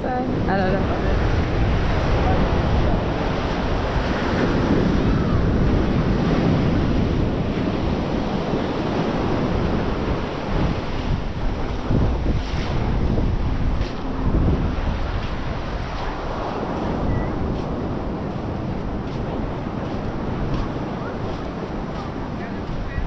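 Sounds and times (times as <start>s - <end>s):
surf washing onto beach: 0.0s - 23.0s
wind on microphone: 0.0s - 23.0s.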